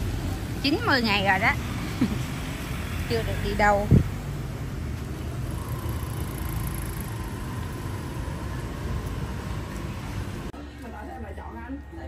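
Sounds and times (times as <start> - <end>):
car passing: 0.0 - 10.6
motorbike passing: 0.0 - 10.6
street traffic rumble: 0.0 - 12.0.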